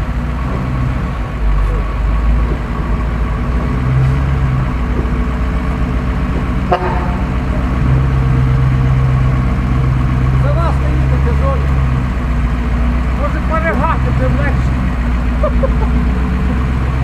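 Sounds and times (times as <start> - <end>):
truck engine running under load: 0.0 - 17.0.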